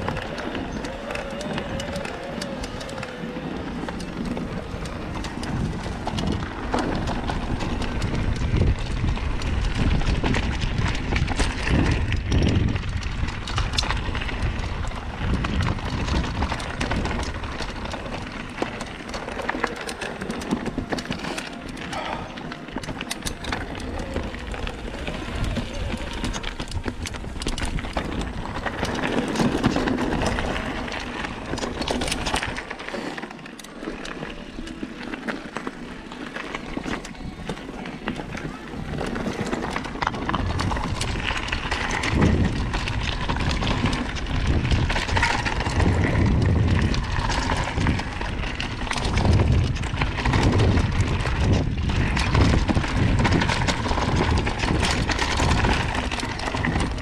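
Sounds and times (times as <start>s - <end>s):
bike rattling and clicking: 0.0s - 57.0s
bike tyres rolling over dirt: 0.0s - 57.0s.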